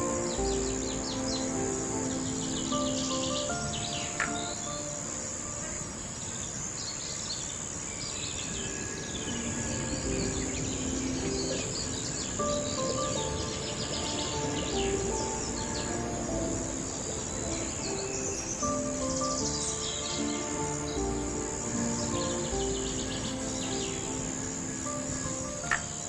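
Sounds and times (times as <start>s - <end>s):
high-pitched insect drone: 0.0s - 26.0s
soft music of held notes: 0.0s - 26.0s.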